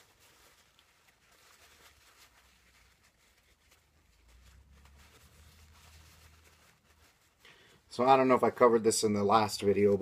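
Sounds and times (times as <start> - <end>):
paper towel rustling: 0.0 - 10.0.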